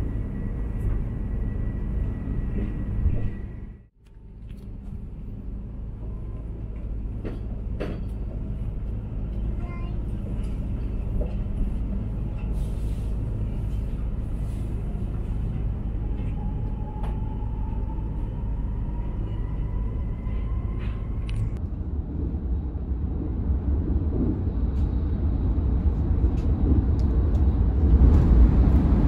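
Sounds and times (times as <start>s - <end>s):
train rumble from inside: 0.0s - 29.0s.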